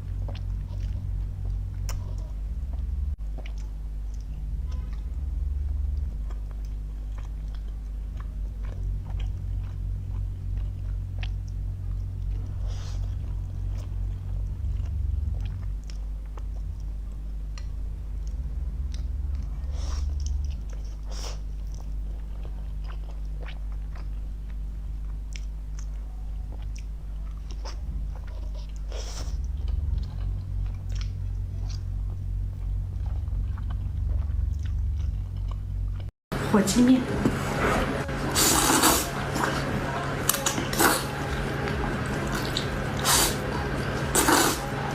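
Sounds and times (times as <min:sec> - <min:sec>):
person chewing and slurping noodles: 0:00.0 - 0:36.1, 0:37.5 - 0:44.9
steady low hum: 0:00.0 - 0:44.9.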